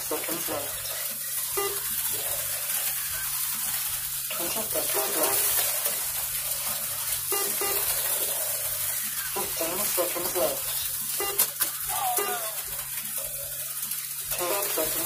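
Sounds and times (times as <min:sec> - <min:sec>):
slot car motors hissing: 0:00.0 - 0:15.0.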